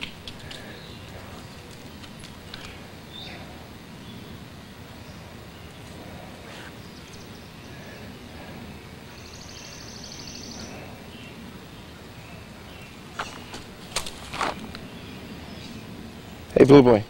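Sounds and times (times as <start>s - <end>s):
low background rumble: 0.0s - 16.6s.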